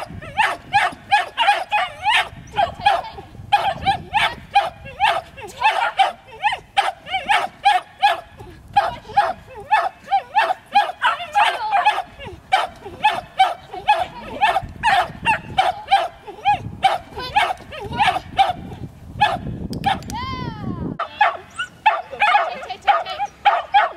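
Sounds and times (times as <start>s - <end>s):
dog barking rapidly: 0.0s - 20.1s, 21.0s - 23.9s.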